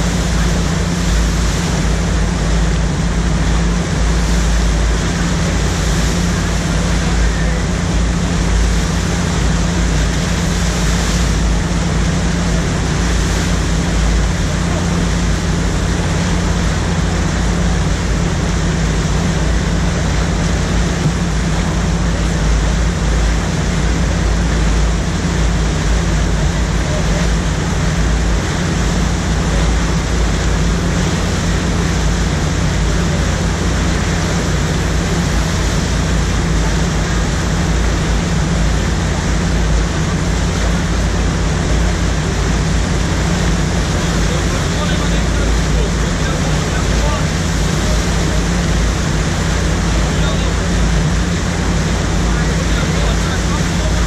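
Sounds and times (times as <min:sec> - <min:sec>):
low hum: 0:00.0 - 0:54.0
rushing white water roar: 0:00.0 - 0:54.0.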